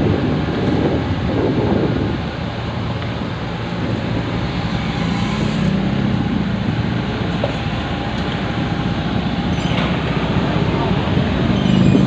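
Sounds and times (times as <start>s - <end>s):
machinery engine droning: 0.0s - 12.0s.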